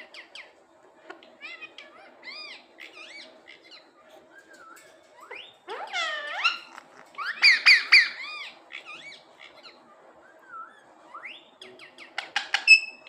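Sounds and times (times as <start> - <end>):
parrot squawking and chirping: 0.0 - 13.0.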